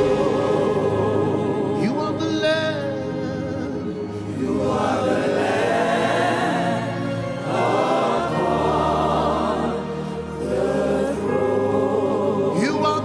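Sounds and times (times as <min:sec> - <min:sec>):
choir and congregation singing: 0:00.0 - 0:13.0.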